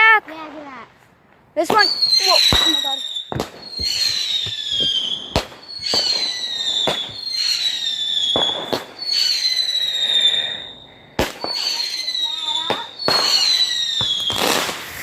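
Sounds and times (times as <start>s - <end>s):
fireworks bangs: 0.0s - 15.0s
descending firework whistle: 1.7s - 15.0s.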